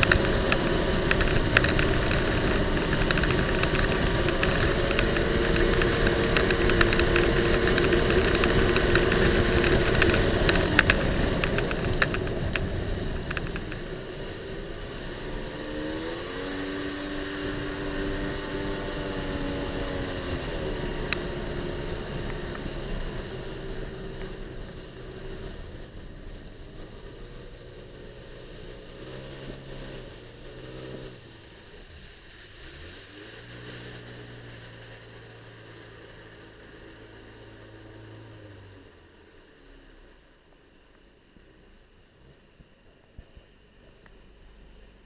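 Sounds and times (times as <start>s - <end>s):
jet ski engine: 0.0s - 45.0s.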